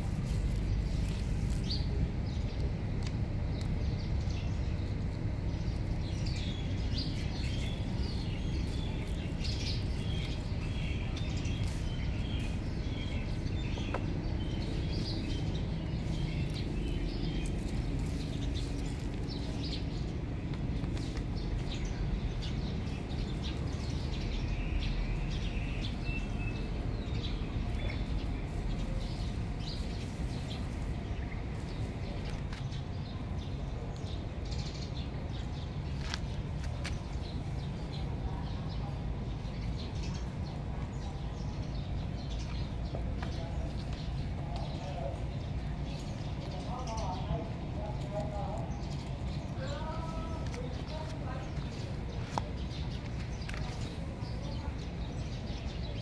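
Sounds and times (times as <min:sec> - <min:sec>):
low background rumble: 0:00.0 - 0:56.0
small birds chirping: 0:00.0 - 0:56.0.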